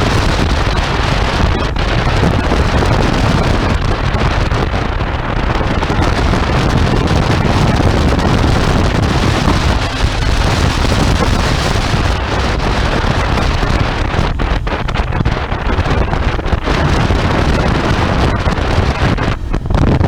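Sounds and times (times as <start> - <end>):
motorcycle engine at road speed: 0.0 - 20.0
wind buffeting on microphone: 0.0 - 20.0.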